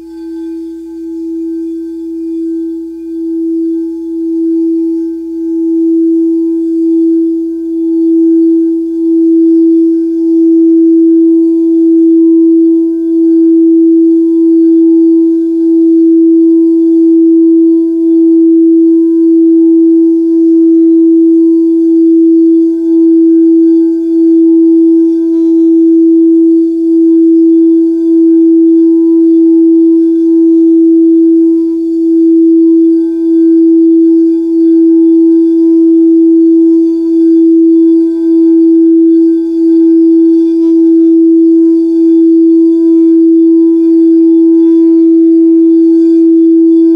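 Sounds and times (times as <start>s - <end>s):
singing bowl ringing tone: 0.0s - 46.9s.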